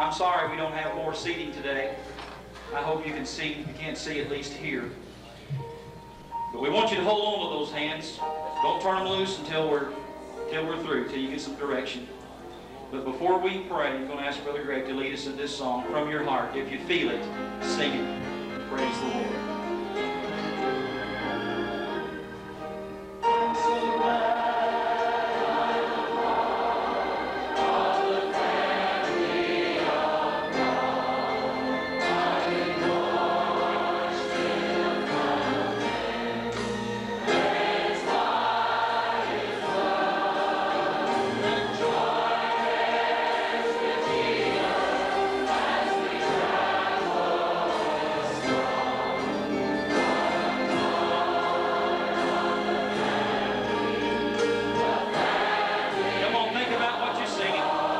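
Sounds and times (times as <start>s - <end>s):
congregation singing: 0.0s - 57.9s.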